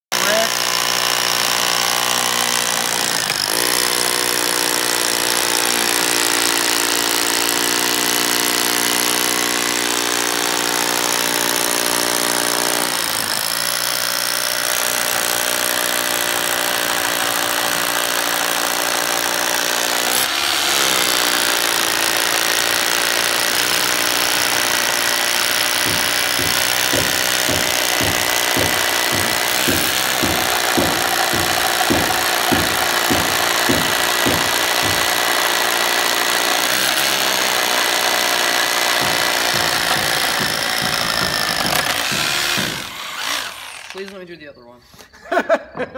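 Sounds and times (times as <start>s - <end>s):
rotary hammer drilling: 0.0s - 44.4s.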